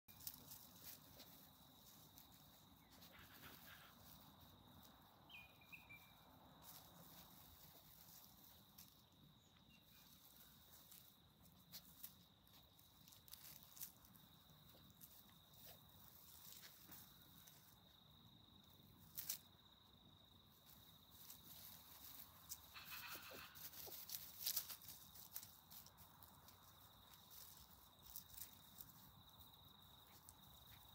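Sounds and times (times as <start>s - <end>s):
puppies scampering through dry leaves: 0.1s - 17.8s, 19.0s - 19.5s, 20.5s - 30.9s.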